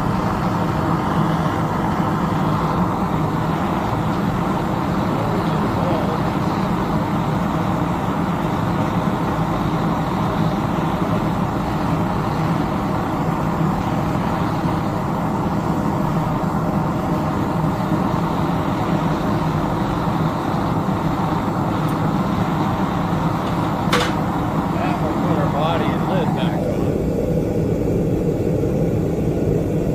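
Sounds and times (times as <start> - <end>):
gas burner rushing: 0.0 - 29.9.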